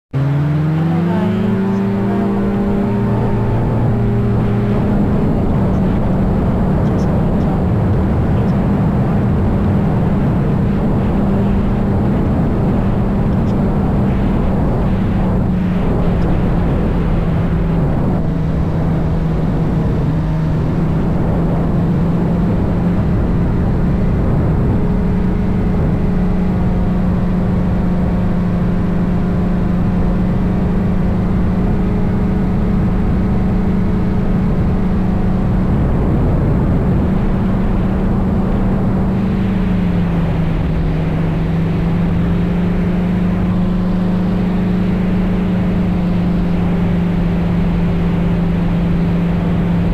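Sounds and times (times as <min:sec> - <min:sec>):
helicopter engine running: 0:00.6 - 0:49.9.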